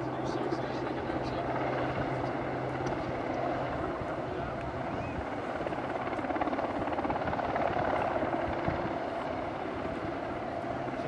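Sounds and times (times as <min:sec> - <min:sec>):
helicopter flying low: 0:00.0 - 0:11.0.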